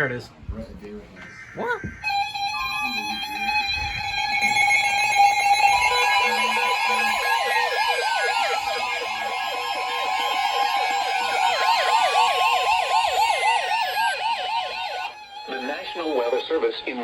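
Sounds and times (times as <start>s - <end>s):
high attention tone: 1.6s - 17.0s
siren-like warble: 1.9s - 17.0s
falling electronic sweeps: 2.0s - 17.0s.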